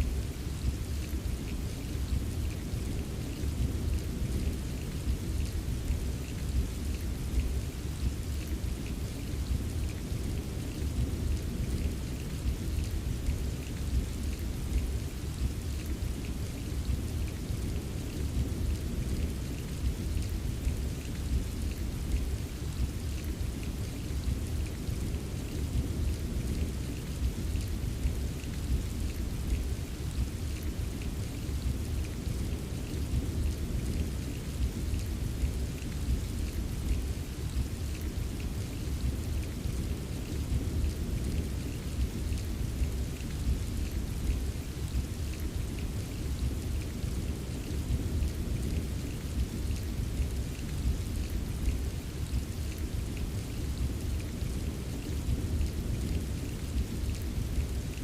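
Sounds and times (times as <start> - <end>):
rain drops tapping: 0.0 - 58.0.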